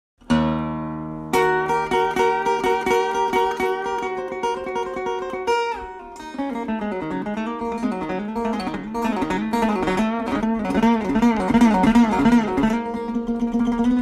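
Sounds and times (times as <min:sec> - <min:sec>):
guitar plucked and strummed: 0:00.2 - 0:14.0.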